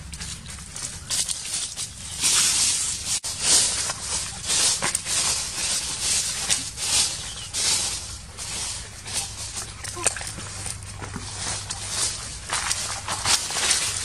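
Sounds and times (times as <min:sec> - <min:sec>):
banana leaf rustling: 0:00.0 - 0:14.0.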